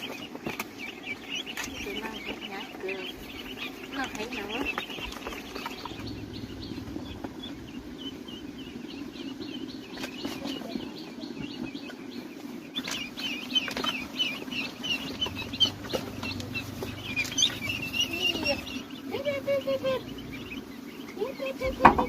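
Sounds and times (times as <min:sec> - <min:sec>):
birds chirping: 0:00.0 - 0:22.0
steady low din: 0:00.8 - 0:22.0.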